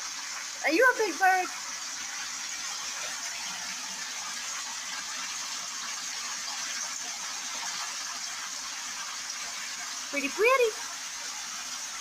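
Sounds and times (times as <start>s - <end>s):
shower water running: 0.0s - 12.0s.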